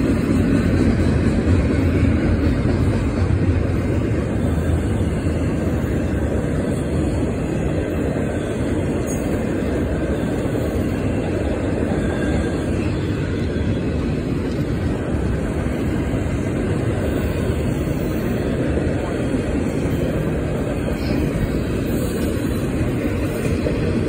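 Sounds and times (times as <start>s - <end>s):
train wheels rolling on rails: 0.0s - 24.0s.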